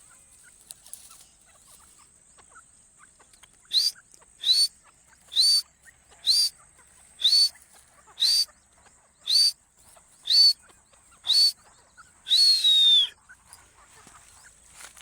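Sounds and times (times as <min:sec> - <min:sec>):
francolin calling: 0:00.0 - 0:15.0.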